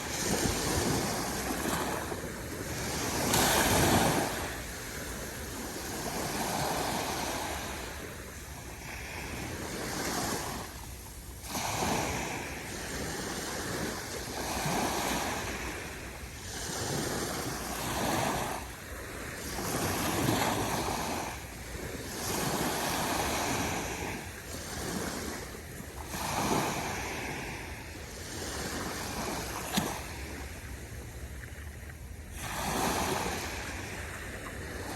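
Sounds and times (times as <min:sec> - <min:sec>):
ocean waves breaking on shore: 0:00.0 - 0:34.9.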